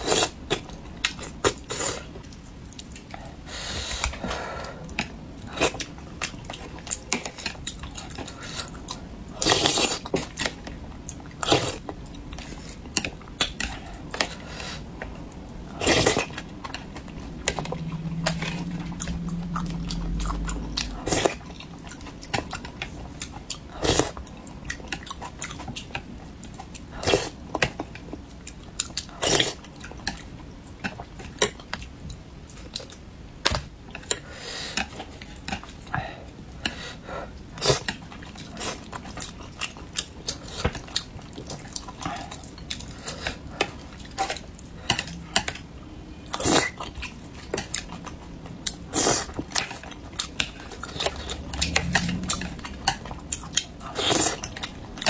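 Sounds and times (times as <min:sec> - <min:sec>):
chewing: 0:00.0 - 0:55.0.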